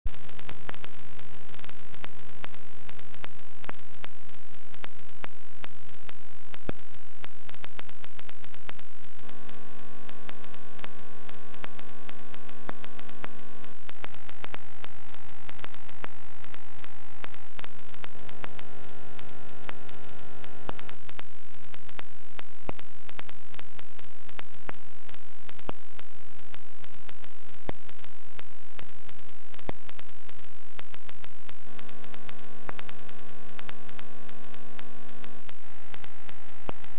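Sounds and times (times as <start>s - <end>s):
crackling static hiss: 0.1s - 36.9s
low mains hum: 0.1s - 36.9s.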